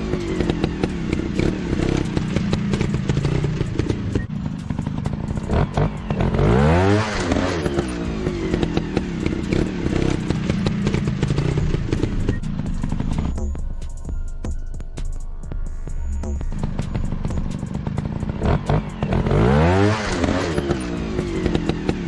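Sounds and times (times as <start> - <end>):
dirt bike engine revving: 0.0 - 13.4, 16.3 - 22.0.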